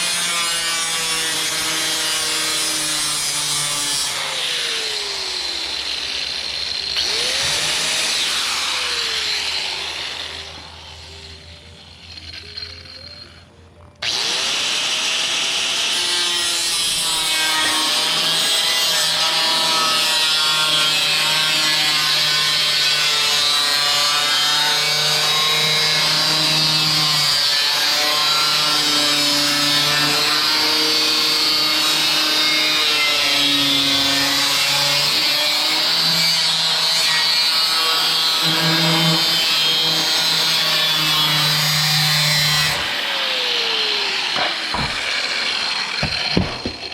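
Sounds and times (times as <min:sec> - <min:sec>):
angle grinder cutting sheet metal: 0:00.0 - 0:46.9.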